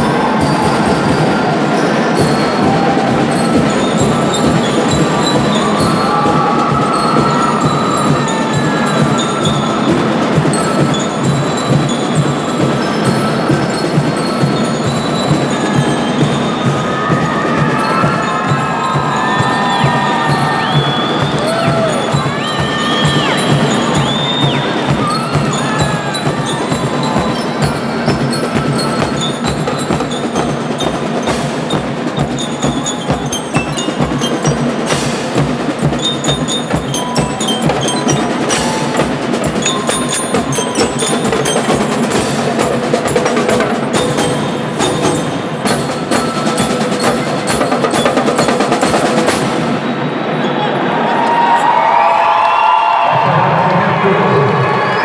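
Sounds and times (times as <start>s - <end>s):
bass and snare drums beating: 0.0s - 49.8s
bell lyres ringing melody: 0.0s - 50.0s.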